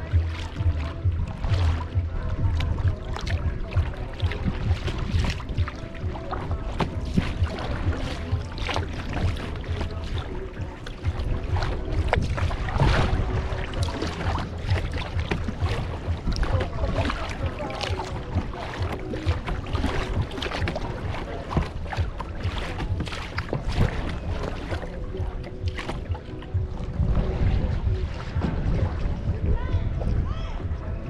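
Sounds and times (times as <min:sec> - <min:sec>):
paddle splashes: 0:00.0 - 0:31.0
water sloshing against hull: 0:00.0 - 0:31.0
wind rumbling on microphone: 0:00.0 - 0:31.0.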